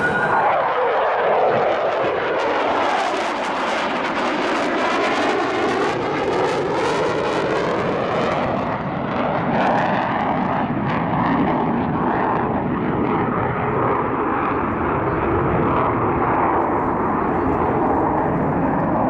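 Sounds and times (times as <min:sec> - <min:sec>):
jet passing roar: 0:00.0 - 0:19.0.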